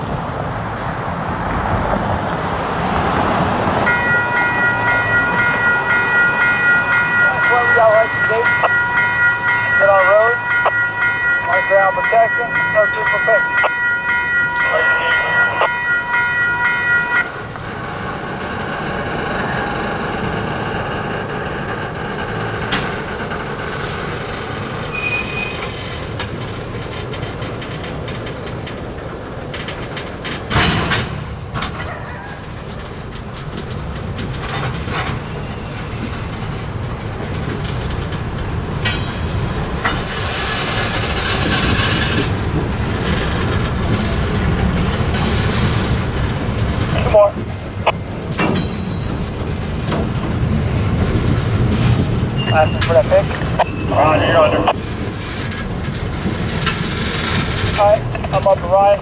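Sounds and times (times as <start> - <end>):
freight train rumbling: 0.0 - 59.0
train wheel clacks: 1.6 - 59.0.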